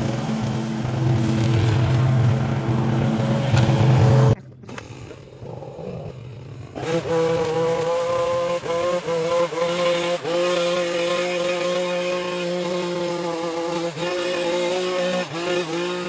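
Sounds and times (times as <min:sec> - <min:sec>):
higher-pitched engine: 0:00.0 - 0:16.0
small engine humming: 0:00.0 - 0:16.0.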